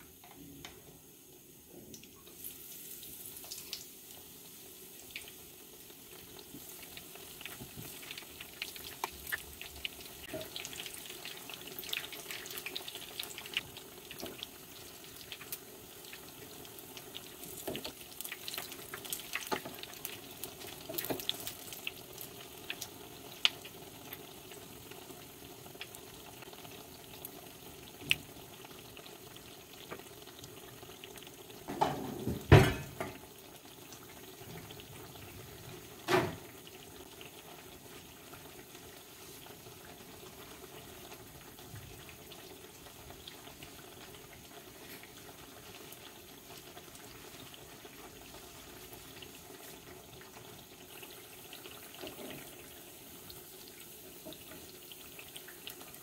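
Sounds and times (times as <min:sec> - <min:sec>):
potato slices deep-frying in oil: 0:00.0 - 0:56.0.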